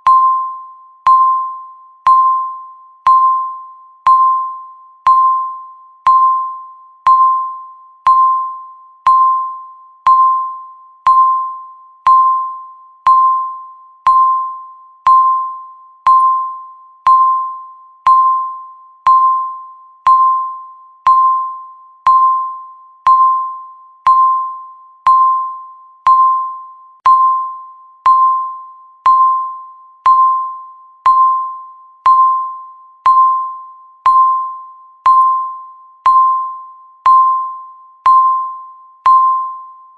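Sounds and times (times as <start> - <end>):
bell-like timer beeps: 0.0 - 39.9.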